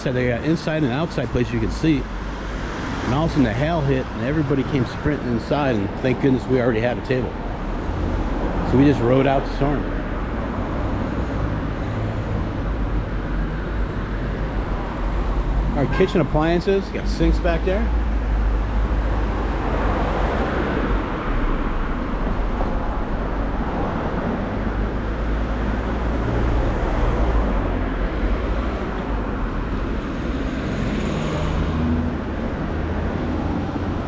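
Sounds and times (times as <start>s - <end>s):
cars passing on city street: 0.0s - 34.0s.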